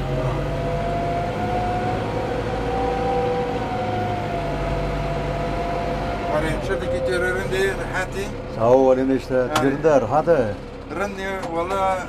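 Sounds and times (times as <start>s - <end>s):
vehicle engine rumbling: 0.0s - 12.0s
steady whine: 0.3s - 12.0s.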